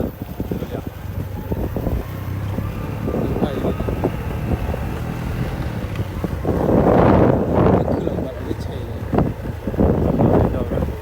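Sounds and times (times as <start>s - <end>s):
vehicle engine rumble: 0.0s - 11.0s
wind noise: 0.0s - 11.0s.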